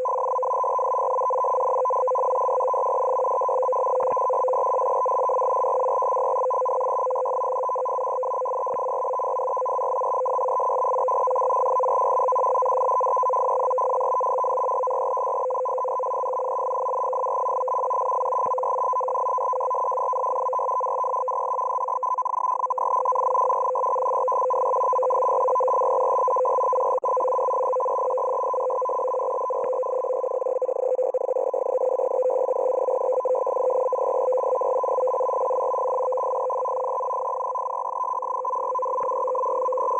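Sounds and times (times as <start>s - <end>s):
two-tone keyed data signal: 0.0s - 39.9s.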